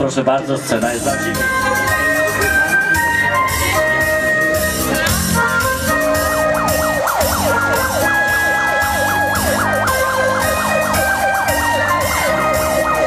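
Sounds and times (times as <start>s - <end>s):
keyboard music: 0.0s - 13.0s
fire engine siren yelping: 1.3s - 13.0s.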